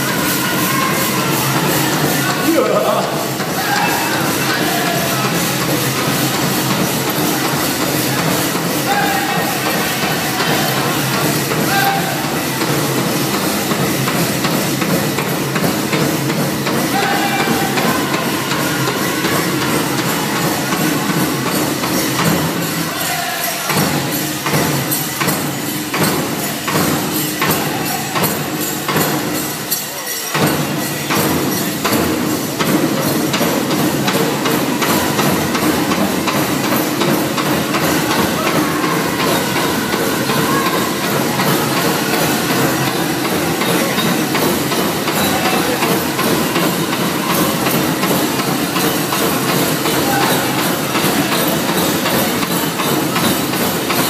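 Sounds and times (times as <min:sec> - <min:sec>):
big drum steady beat: 0:00.0 - 0:29.7, 0:30.4 - 0:54.0
bells and jingles clattering: 0:00.0 - 0:54.0.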